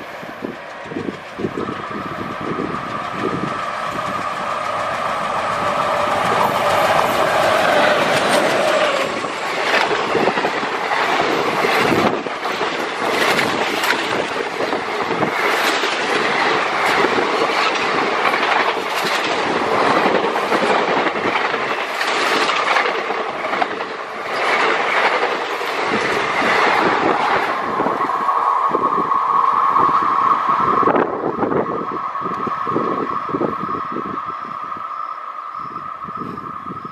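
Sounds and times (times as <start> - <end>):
train wheel clatter: 0.0 - 34.9
diesel locomotives passing: 0.0 - 36.9.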